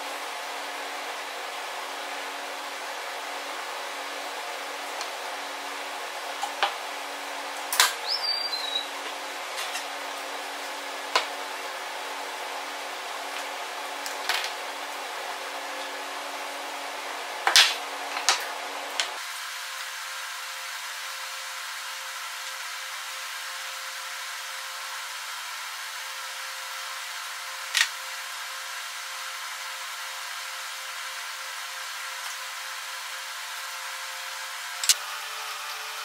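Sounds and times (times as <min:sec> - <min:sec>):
steady hum and hiss: 0:00.0 - 0:36.0.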